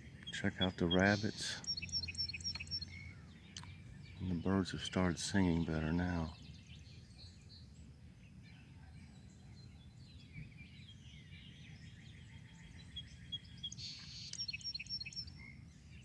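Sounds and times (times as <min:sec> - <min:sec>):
bird trill: 0:00.0 - 0:07.8, 0:10.0 - 0:16.0
songbirds singing and chirping: 0:00.0 - 0:16.0.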